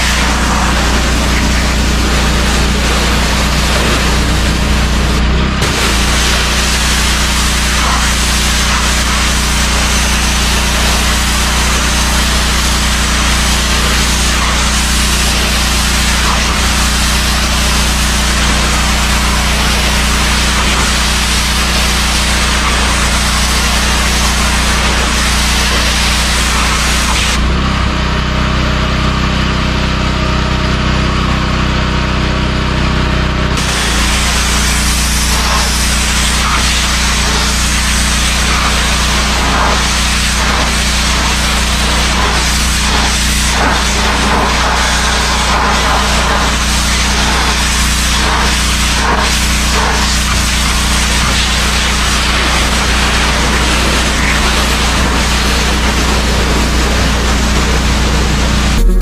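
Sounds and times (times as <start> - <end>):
water jet hissing on metal: 0.0 - 27.4, 33.6 - 58.8
pressure washer motor hum: 0.0 - 59.0.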